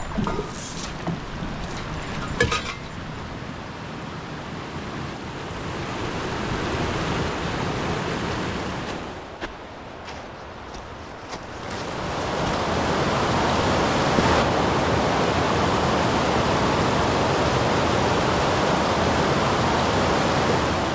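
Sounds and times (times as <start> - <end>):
wind and water rushing: 0.0 - 20.9.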